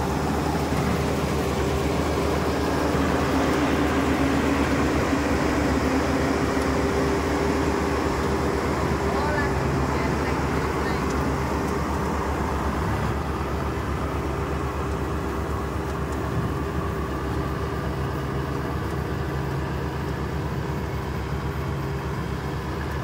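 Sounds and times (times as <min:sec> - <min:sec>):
combine harvester engine drone: 0:00.0 - 0:23.0
threshing machinery hum: 0:00.0 - 0:23.0.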